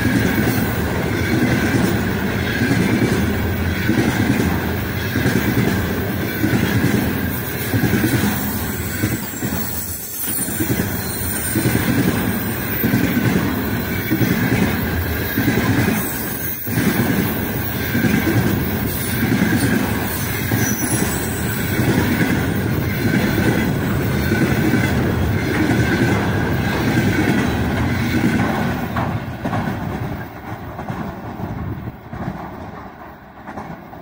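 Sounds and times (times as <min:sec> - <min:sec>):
freight train rolling past: 0:00.0 - 0:34.0.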